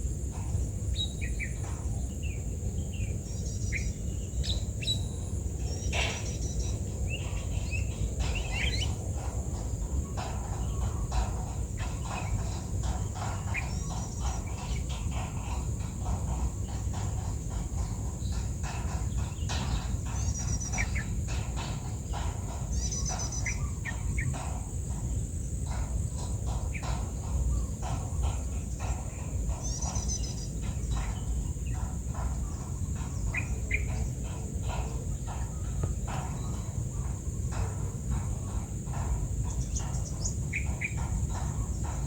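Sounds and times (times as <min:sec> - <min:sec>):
bird chirping: 0:00.9 - 0:42.0.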